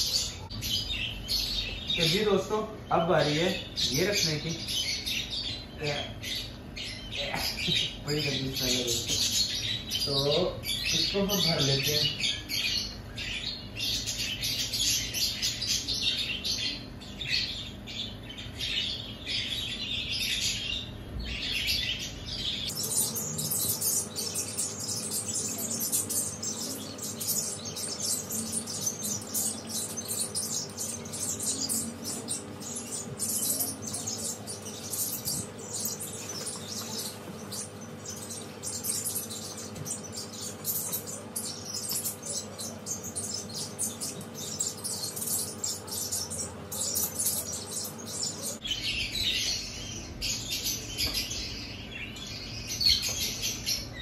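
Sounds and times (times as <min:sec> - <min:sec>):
birds chirping and twittering: 0:00.0 - 0:54.0
faint steady hum: 0:00.0 - 0:54.0.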